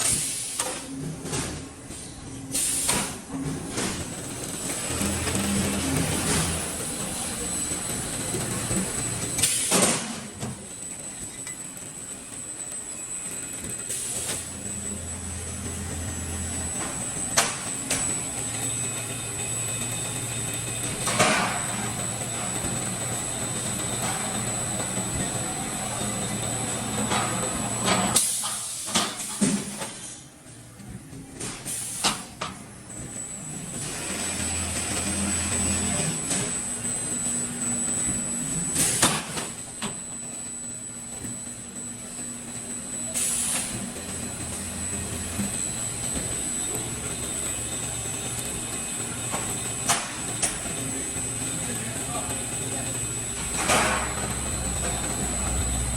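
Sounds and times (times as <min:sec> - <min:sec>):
machine humming and whining: 0:00.0 - 0:55.9.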